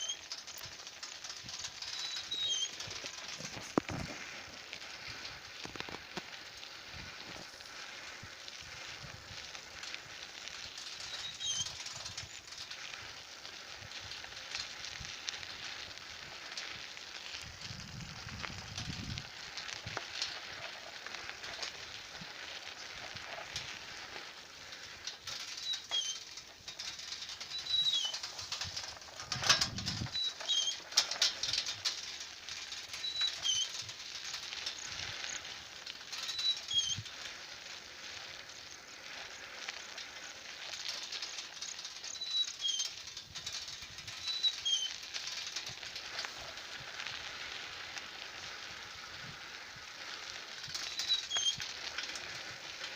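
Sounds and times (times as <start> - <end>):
crackling rustle: 0.0 - 52.9.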